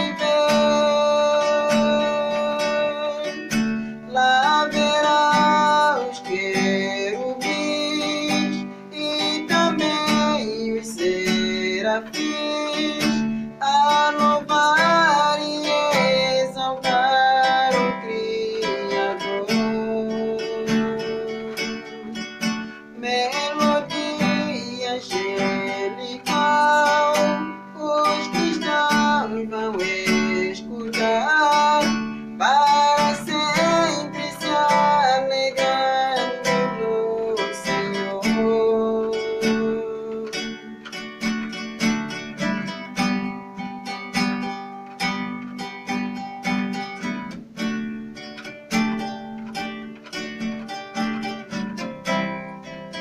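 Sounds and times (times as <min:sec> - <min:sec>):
acoustic guitar music: 0:00.0 - 0:53.0.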